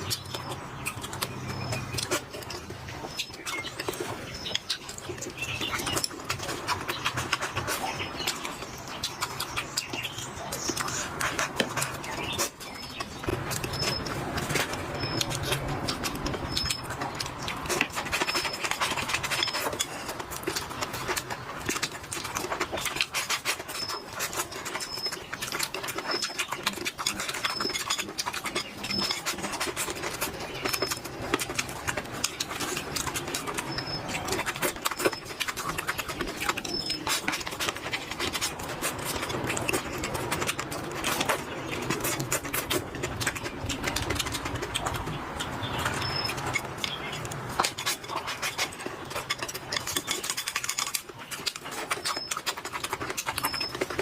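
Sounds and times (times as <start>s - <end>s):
person chewing and eating: 0.0s - 54.0s.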